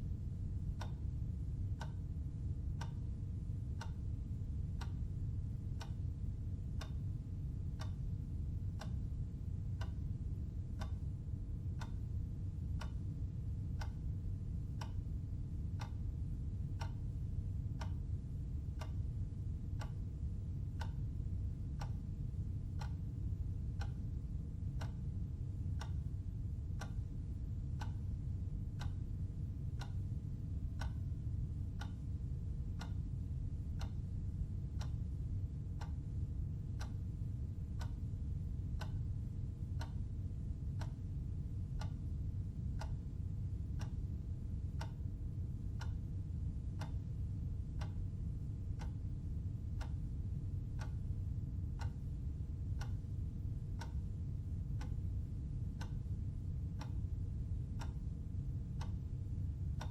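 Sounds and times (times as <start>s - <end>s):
low steady hum: 0.0s - 59.9s
clock ticking: 0.6s - 2.1s, 2.7s - 4.1s, 4.7s - 7.1s, 7.7s - 26.1s, 26.7s - 33.1s, 33.7s - 34.0s, 34.7s - 40.0s, 40.6s - 46.0s, 46.8s - 47.2s, 47.8s - 51.2s, 51.8s - 59.0s.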